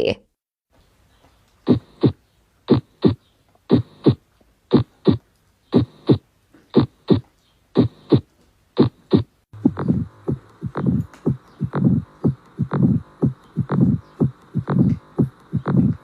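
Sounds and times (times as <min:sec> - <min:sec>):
heartbeat lub-dub thumps: 0:01.7 - 0:06.2, 0:06.8 - 0:16.0.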